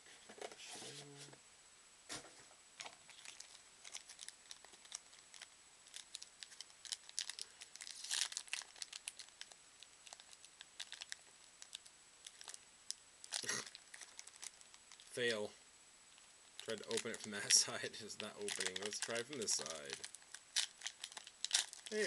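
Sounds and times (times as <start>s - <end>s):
card packaging crinkling and tearing: 2.8s - 15.3s, 16.6s - 22.0s.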